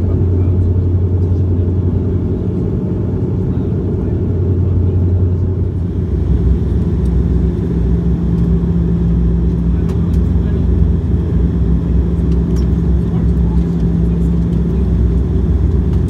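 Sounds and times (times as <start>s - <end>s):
turboprop engines droning in cabin: 0.0s - 16.0s.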